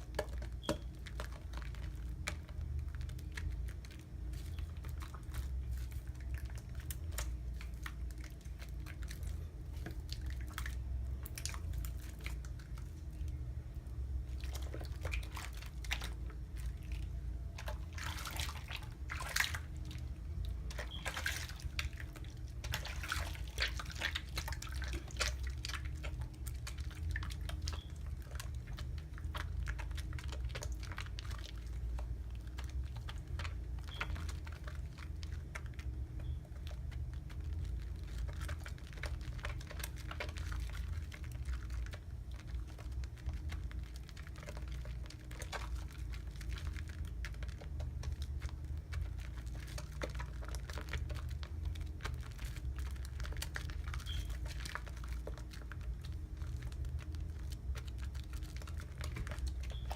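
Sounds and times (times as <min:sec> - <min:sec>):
low steady hum: 0:00.0 - 0:59.9
soap lather crackling and squishing: 0:00.0 - 0:59.9.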